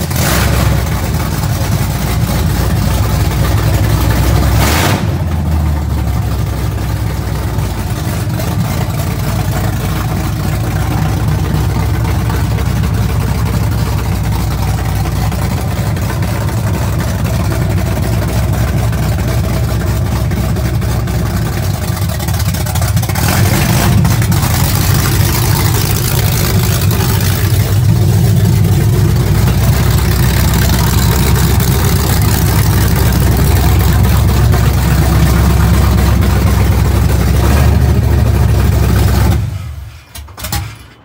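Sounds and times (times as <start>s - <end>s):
loud v eight engine running: 0.0s - 39.8s.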